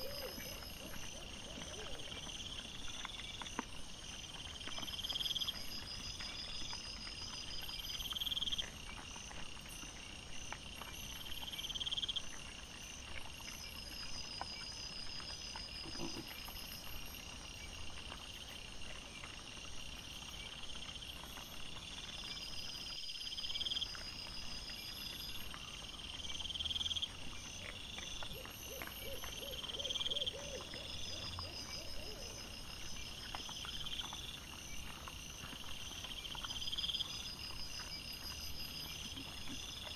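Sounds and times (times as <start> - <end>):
faint ticks and rustles: 0.0 - 39.9
insects chirping: 0.0 - 39.9.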